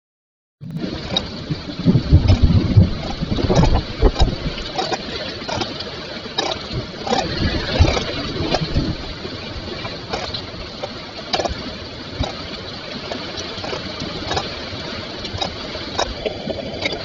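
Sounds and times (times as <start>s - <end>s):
heavy rain falling: 0.6s - 17.0s
sharp drips and splashes: 0.6s - 17.0s.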